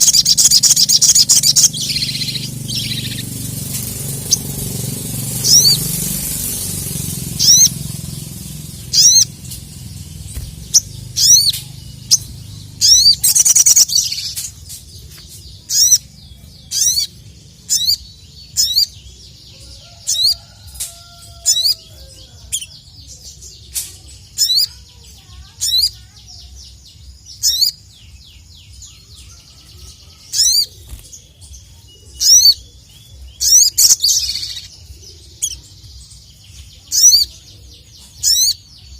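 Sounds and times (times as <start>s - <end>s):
sunbird chirping: 0.0s - 38.9s.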